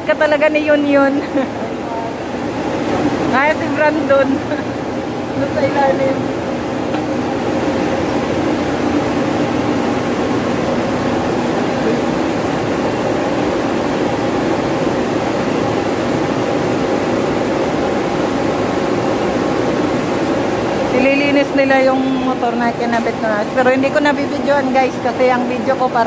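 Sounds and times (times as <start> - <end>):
machinery drone: 0.0 - 26.0.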